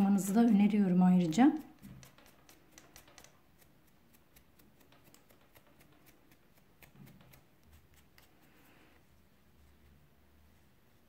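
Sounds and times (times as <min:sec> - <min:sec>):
faint ticks and rustles of cord: 0:00.0 - 0:10.0.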